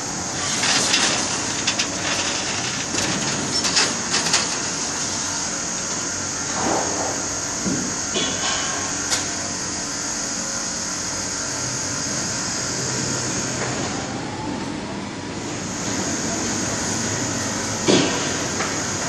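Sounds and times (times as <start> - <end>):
construction hoist running: 0.0 - 19.0.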